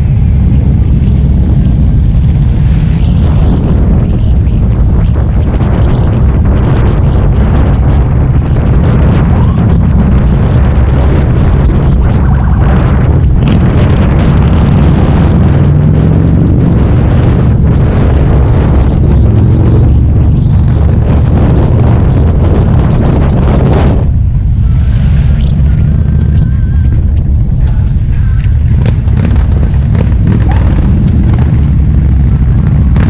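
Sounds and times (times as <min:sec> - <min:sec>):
loud motorcycle engine: 0:00.0 - 0:33.0
wind buffeting microphone: 0:00.0 - 0:33.0.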